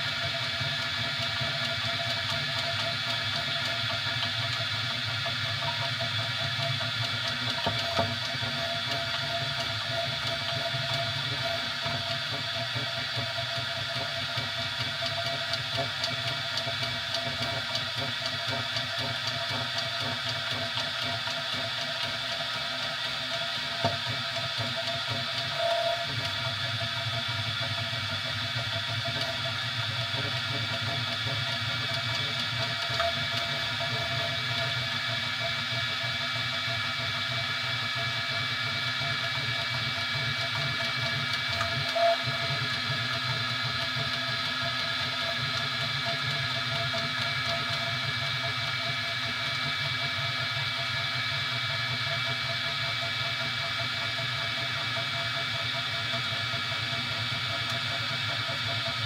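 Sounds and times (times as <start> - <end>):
printer fans and motors humming: 0.0 - 59.0.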